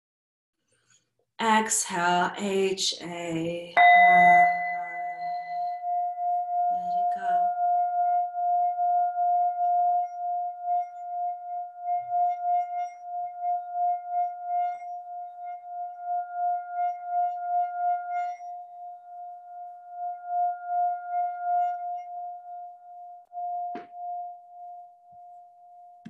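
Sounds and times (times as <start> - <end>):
singing bowl ringing tone: 3.8 - 26.0.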